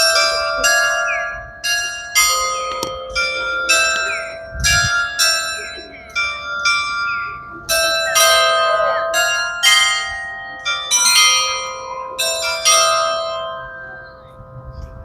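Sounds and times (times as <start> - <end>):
tower bells playing a melody: 0.0 - 15.0.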